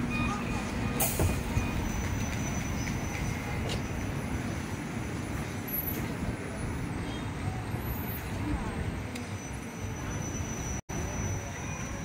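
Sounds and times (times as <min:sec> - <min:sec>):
bus engine low rumble: 0:00.0 - 0:12.0
street traffic: 0:00.0 - 0:12.0.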